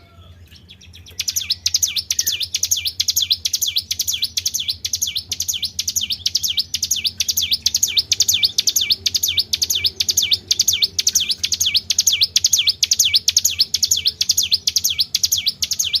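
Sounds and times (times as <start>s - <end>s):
faint low hum: 0.0s - 16.0s
high sweeping bird chirps: 0.0s - 16.0s.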